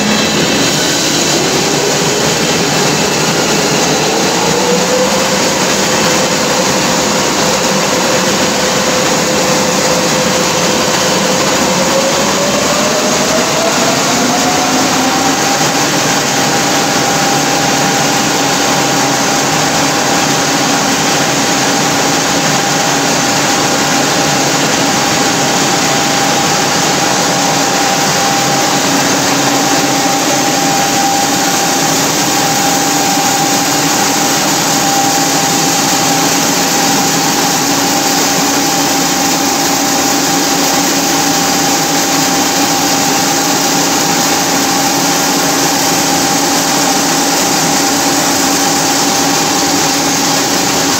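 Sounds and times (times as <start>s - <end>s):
lathe machine drone: 0.0s - 50.9s
machine whine: 0.0s - 50.9s.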